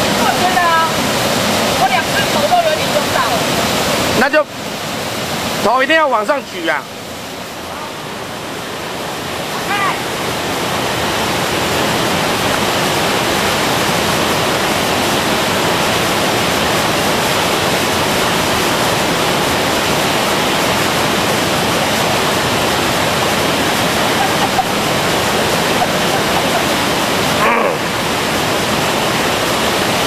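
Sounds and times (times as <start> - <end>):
waterfall rushing over rocks: 0.0 - 30.0.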